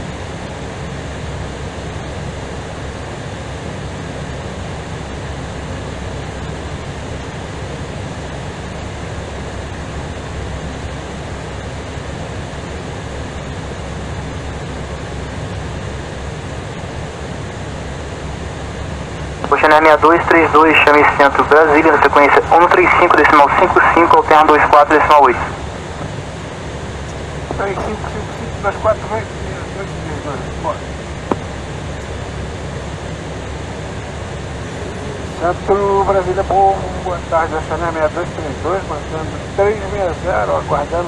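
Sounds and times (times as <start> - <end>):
airflow rushing in aircraft cabin: 0.0 - 41.0
jet engines: 0.0 - 41.0.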